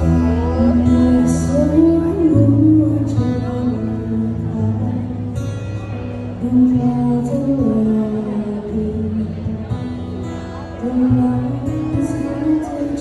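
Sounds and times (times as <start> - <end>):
woman singing through microphone: 0.0 - 5.3, 6.4 - 9.7, 10.6 - 13.0
acoustic guitar: 0.0 - 13.0.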